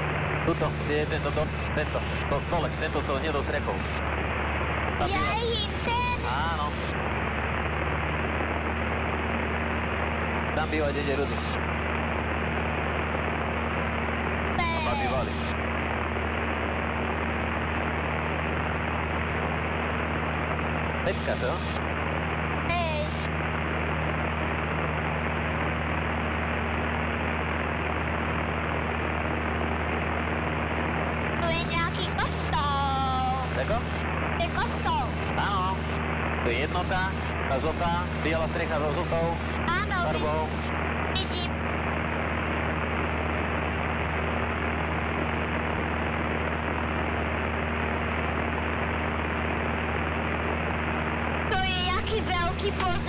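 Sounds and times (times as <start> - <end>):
aircraft engine droning in cockpit: 0.0 - 53.0.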